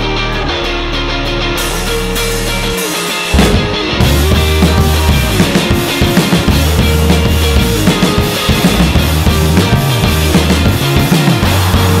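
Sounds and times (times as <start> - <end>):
bass line: 0.0 - 12.0
rock music: 0.0 - 12.0
drum kit beat: 1.5 - 12.0.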